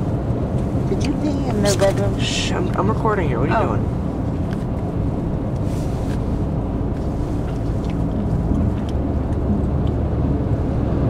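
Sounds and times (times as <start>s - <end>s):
car driving on snowy road: 0.0s - 11.0s.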